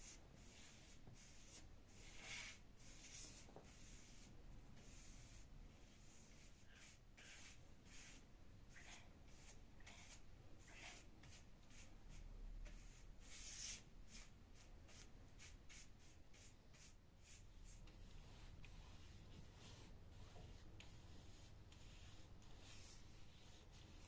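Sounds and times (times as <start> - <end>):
rubbing strokes against surface: 0.0 - 24.0.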